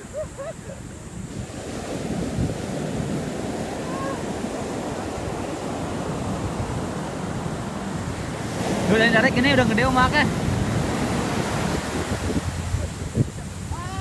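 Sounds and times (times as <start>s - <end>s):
surf washing up beach: 0.0s - 14.0s
wind rumbling on microphone: 0.0s - 14.0s.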